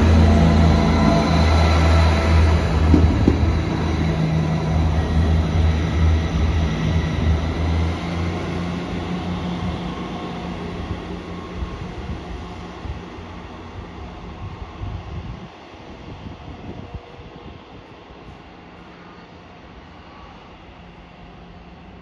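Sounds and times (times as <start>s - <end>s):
train diesel engines droning: 0.0s - 22.0s.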